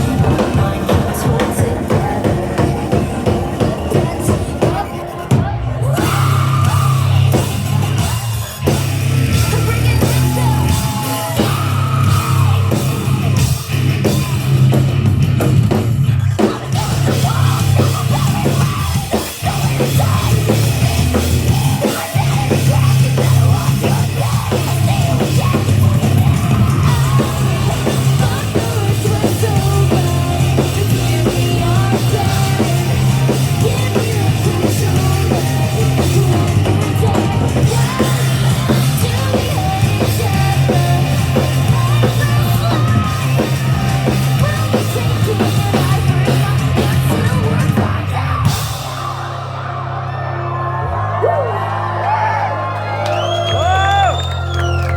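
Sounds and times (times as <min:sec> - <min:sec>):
heavy rock band playing: 0:00.0 - 0:54.9
pounding drum kit: 0:00.0 - 0:54.9
steady bass: 0:00.0 - 0:54.9
yelled vocals: 0:00.0 - 0:54.9.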